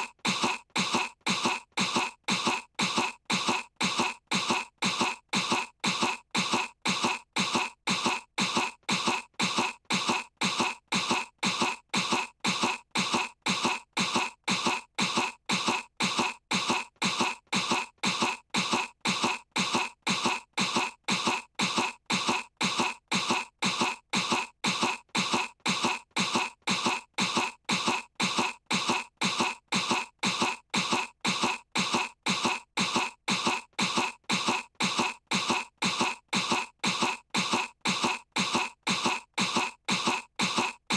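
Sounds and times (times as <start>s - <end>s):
cartoon girl coughing: 0.0s - 40.9s.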